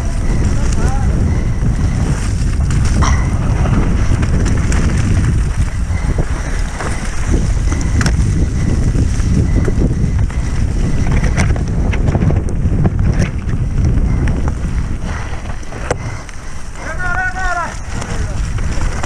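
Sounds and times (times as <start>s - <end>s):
bike rattles and knocks: 0.0s - 19.0s
wind buffeting microphone: 0.0s - 19.0s.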